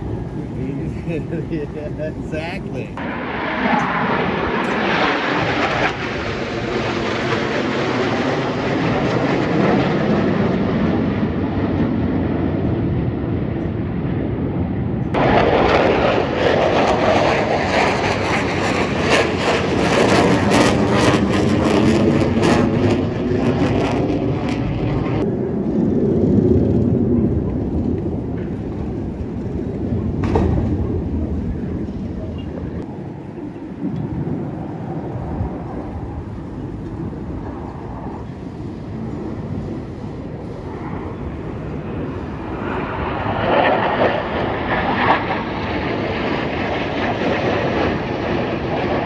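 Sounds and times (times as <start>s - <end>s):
jet engines roaring overhead: 0.0s - 49.0s.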